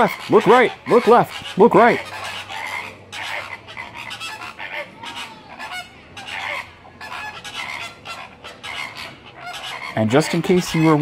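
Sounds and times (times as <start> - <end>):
flamingos honking: 0.0 - 11.0.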